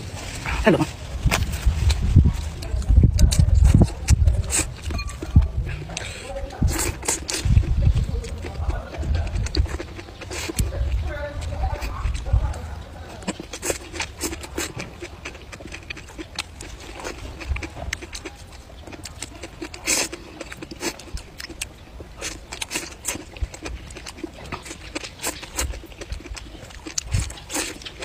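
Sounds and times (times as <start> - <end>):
wet chewing and slurping: 0.0 - 28.0
mouth smacks and clicks: 1.3 - 12.6, 13.2 - 28.0.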